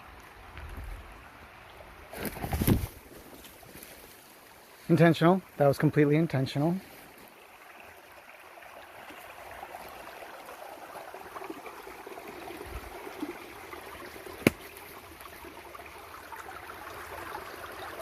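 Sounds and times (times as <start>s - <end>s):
river trickling over rocks: 0.0s - 18.0s.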